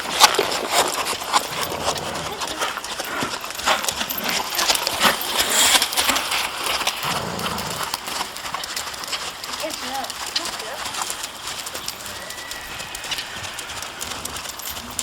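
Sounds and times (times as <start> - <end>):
horse hooves striking: 0.0 - 15.0.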